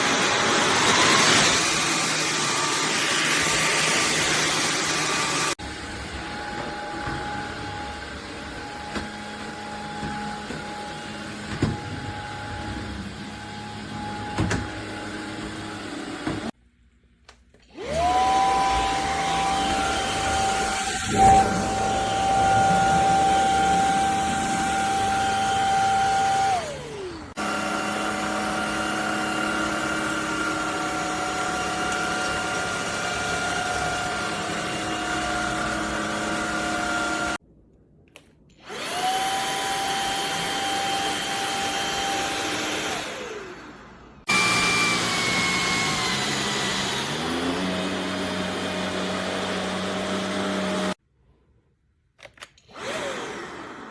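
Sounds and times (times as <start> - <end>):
stick vacuum motor whining: 0.0 - 16.6, 17.5 - 37.4, 38.5 - 51.0, 52.5 - 53.9.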